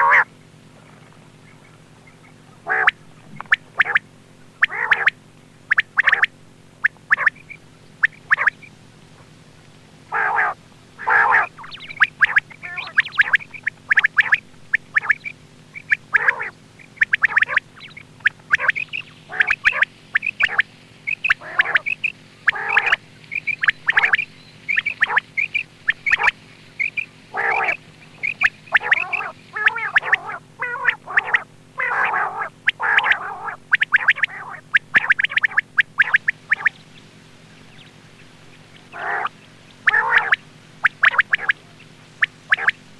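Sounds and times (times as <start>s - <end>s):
quail calling: 0.0s - 42.9s
steady low hum: 0.0s - 42.9s.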